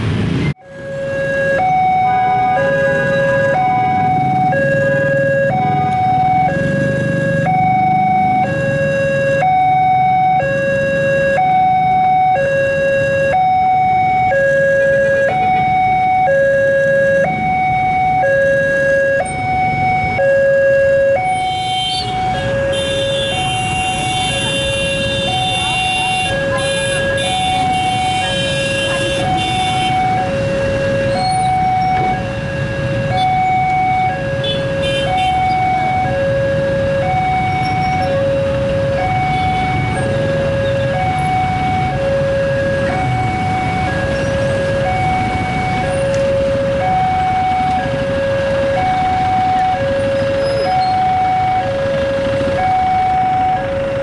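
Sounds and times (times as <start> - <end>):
level-crossing two-tone alarm: 0.6 - 54.0.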